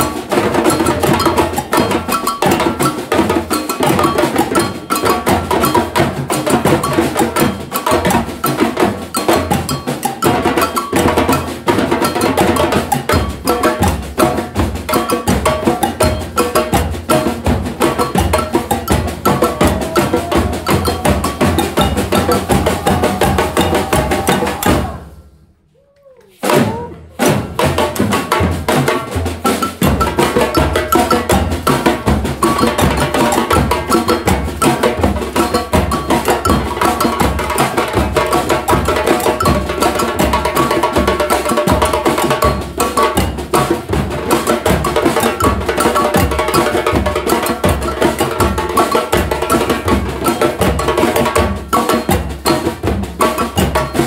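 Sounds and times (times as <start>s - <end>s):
samba drum ensemble: 0.0s - 25.3s, 26.4s - 54.0s.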